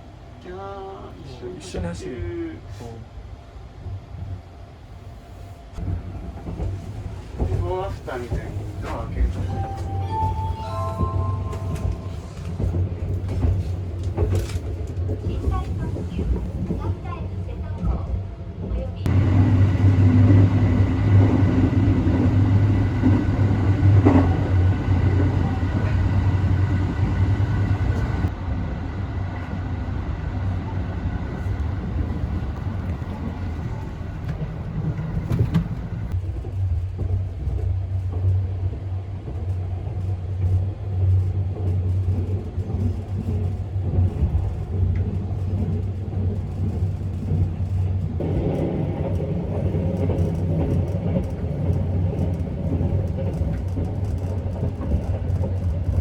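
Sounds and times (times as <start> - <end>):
train running gear rumble: 1.2 - 56.0.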